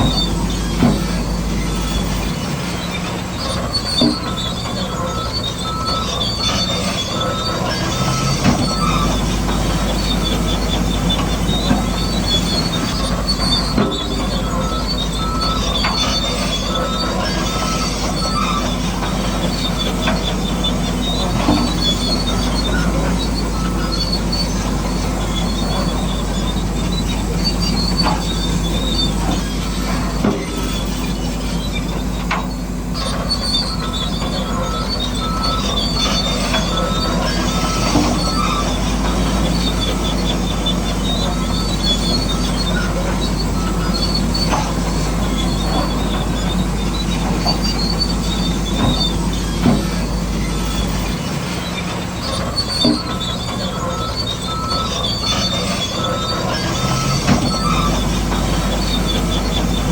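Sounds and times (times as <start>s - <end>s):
high squealing whine: 0.0s - 59.9s
model bulldozer running: 0.0s - 59.9s.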